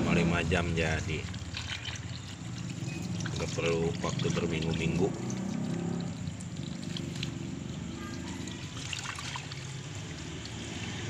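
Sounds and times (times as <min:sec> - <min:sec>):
tap water splashing into a bowl: 0:01.0 - 0:07.4, 0:08.1 - 0:11.0.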